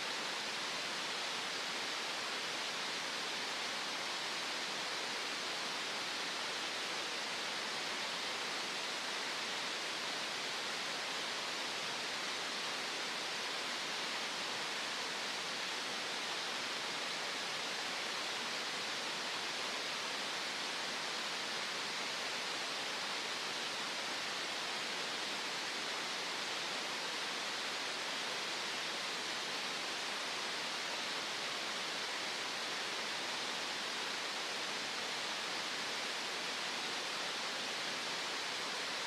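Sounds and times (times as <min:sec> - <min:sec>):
steady even hiss: 0:00.0 - 0:39.0.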